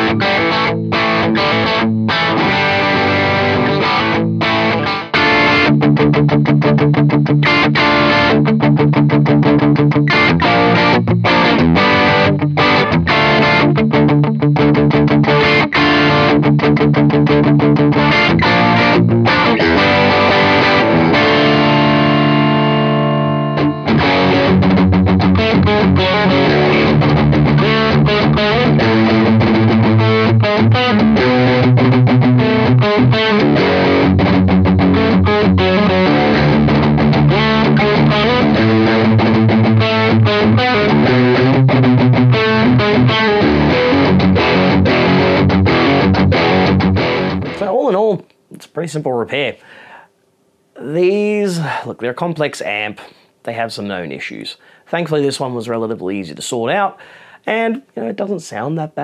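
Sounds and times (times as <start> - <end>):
electric guitar through amp: 0.0 - 48.2.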